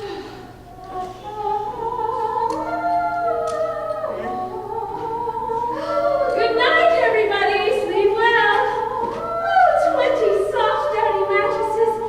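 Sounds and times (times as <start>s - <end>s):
soft musical accompaniment: 0.0s - 12.0s
woman singing wordless vocalise: 0.6s - 12.0s.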